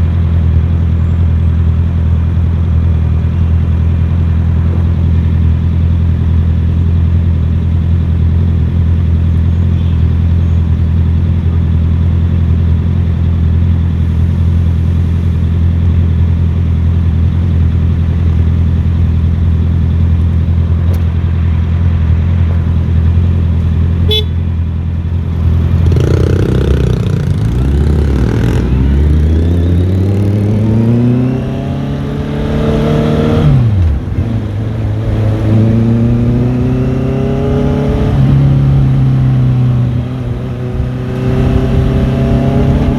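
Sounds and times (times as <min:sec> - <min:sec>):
motorcycle engine revving: 0:02.3 - 0:24.4, 0:25.0 - 0:42.9.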